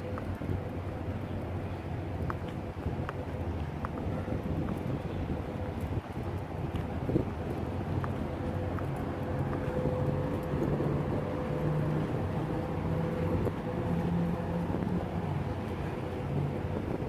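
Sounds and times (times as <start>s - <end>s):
engine drone: 0.0s - 17.0s
outdoor background noise: 0.0s - 17.0s.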